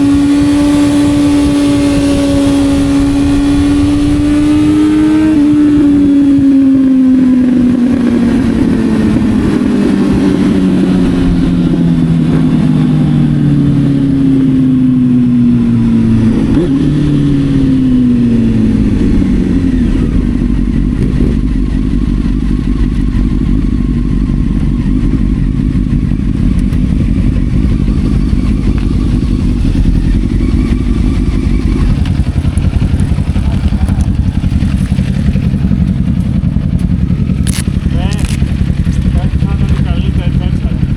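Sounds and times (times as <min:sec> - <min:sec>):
motorcycle engine slowing down: 0:00.0 - 0:40.9
steady low rumble: 0:00.0 - 0:40.9.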